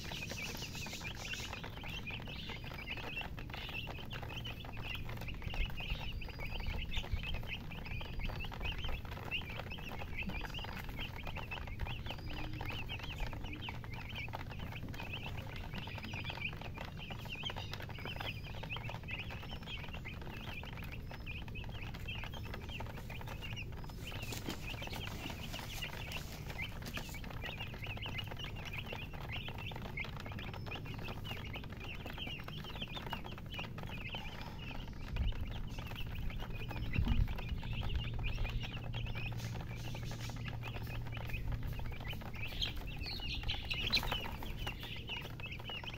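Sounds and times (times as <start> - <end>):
baby chicks chirping: 0.0 - 45.9
steady low rumble: 1.0 - 45.9.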